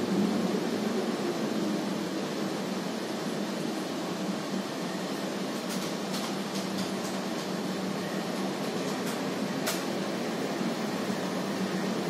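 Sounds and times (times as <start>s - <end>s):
droning hum with hiss: 0.0s - 12.0s.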